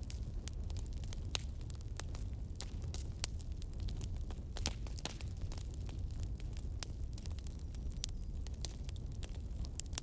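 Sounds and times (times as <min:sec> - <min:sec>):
bonfire crackling and popping: 0:00.0 - 0:10.0.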